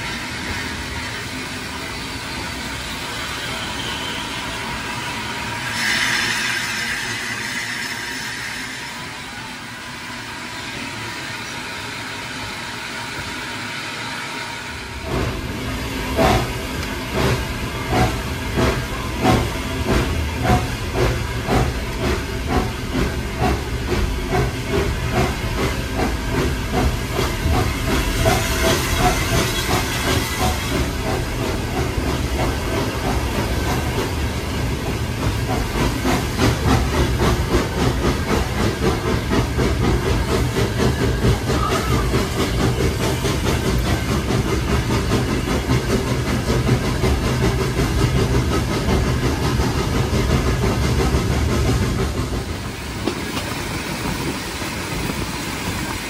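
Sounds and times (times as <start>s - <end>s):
moving train rumbling: 0.0s - 56.0s
steam hissing: 0.0s - 56.0s
steam locomotive exhaust beats: 0.0s - 56.0s.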